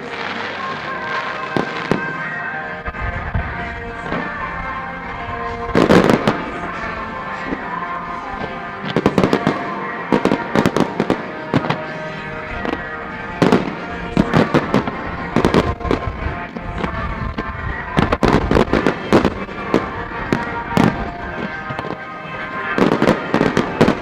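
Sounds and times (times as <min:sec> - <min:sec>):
fireworks bangs and crackles: 0:00.0 - 0:24.0
music playing: 0:00.0 - 0:24.0.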